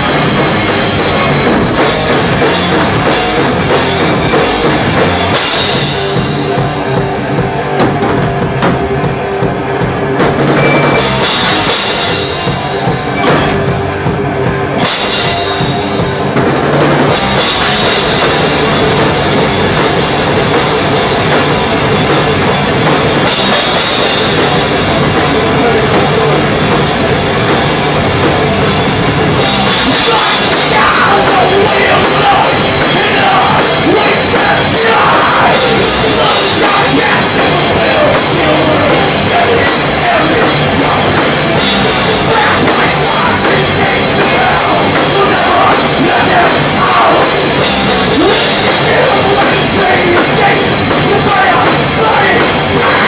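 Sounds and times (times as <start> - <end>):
drums and cymbals: 0.0 - 53.0
metal band playing live: 0.0 - 53.0.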